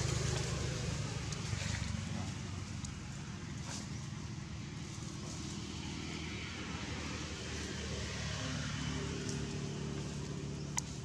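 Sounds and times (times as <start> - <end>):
distant engine droning: 0.0 - 11.0.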